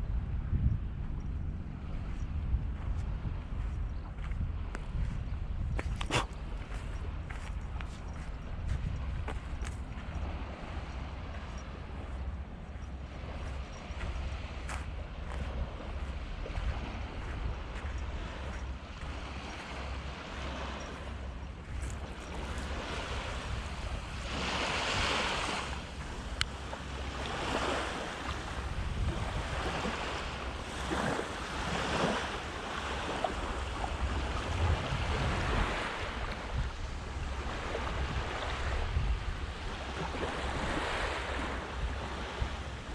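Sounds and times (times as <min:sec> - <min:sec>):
wind buffeting microphone: 0:00.0 - 0:42.9
sea waves washing onto beach: 0:06.4 - 0:42.9.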